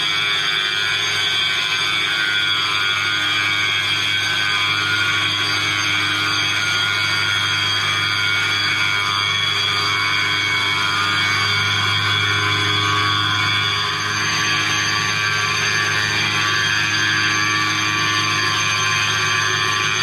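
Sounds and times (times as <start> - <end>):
gearbox whine: 0.0 - 20.0.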